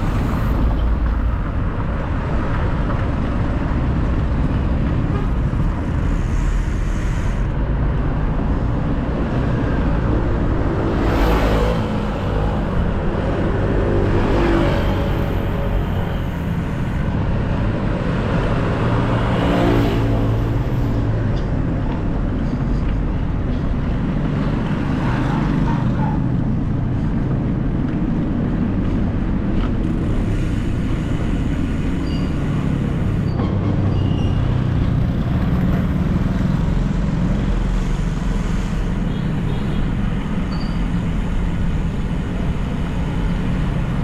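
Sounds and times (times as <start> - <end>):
traffic rumble: 0.0 - 44.0.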